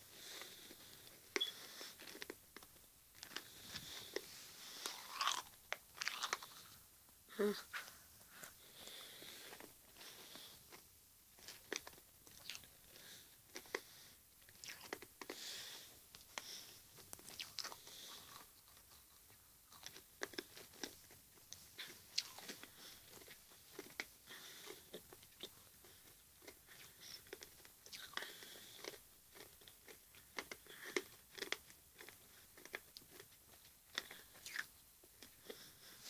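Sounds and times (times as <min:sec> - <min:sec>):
chewing and crunching sweets: 0:00.0 - 0:36.0.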